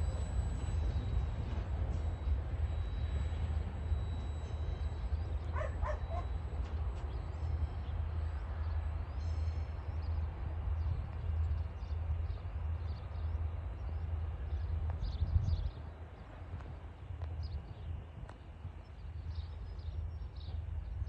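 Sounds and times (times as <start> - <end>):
train wagons rumbling: 0.0 - 18.1.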